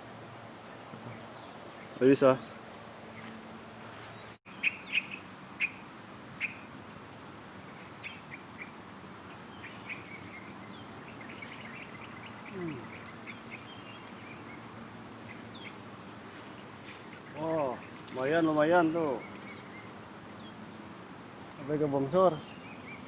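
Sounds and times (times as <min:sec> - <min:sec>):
insects droning: 0:00.0 - 0:23.0
birds chirping: 0:00.1 - 0:23.0.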